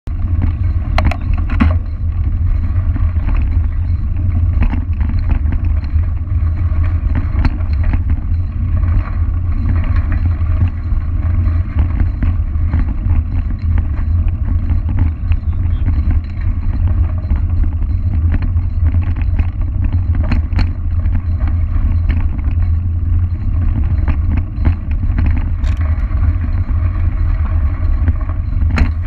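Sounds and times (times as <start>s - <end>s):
wind rumble on microphone: 0.0s - 29.0s
small clicks and rattles: 0.1s - 29.0s.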